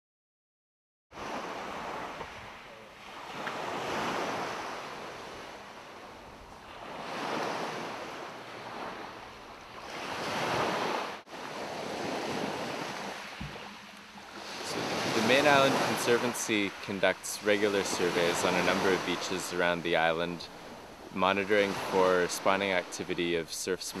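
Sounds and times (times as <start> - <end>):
small waves washing onto beach: 1.1 - 24.0.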